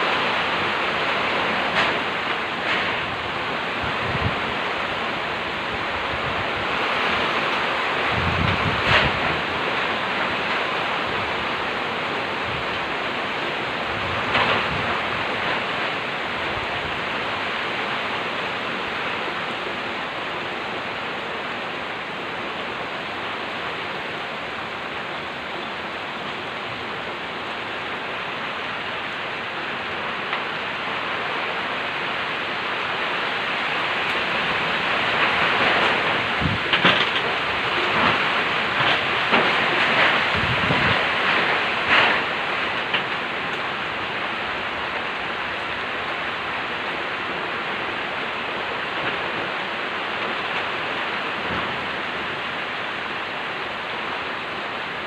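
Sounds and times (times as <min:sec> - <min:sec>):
heavy rain pouring: 0:00.0 - 0:55.0
strong wind: 0:00.0 - 0:55.0.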